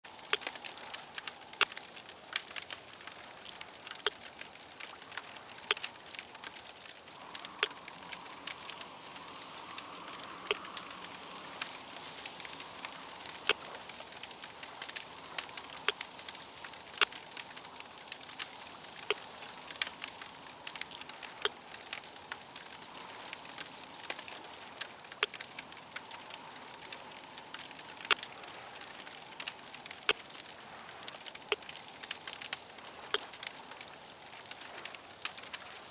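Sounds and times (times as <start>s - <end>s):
fire crackling and popping: 0.1s - 35.9s.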